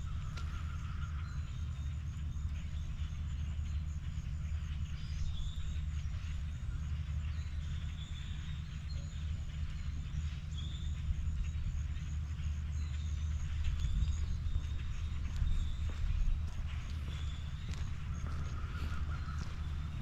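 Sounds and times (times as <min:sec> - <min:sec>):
footsteps outdoors: 0:00.0 - 0:20.0
steady low rumble: 0:00.0 - 0:20.0.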